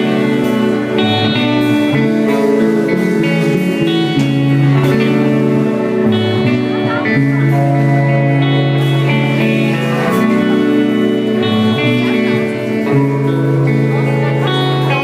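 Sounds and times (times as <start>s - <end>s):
live band playing held chords: 0.0s - 15.0s
moving bass line: 0.0s - 15.0s.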